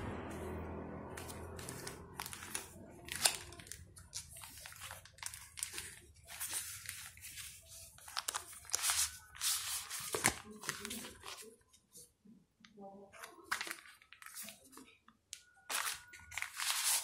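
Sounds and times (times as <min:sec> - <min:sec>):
plastic wrapping crinkling: 0:01.2 - 0:11.6, 0:13.2 - 0:17.0.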